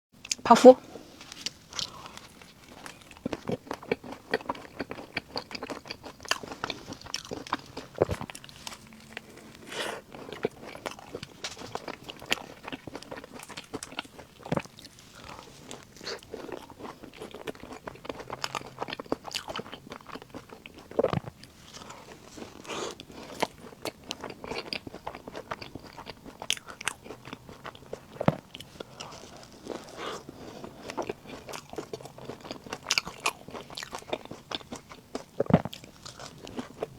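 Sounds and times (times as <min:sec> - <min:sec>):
crunchy snack chewing: 0:01.1 - 0:36.9.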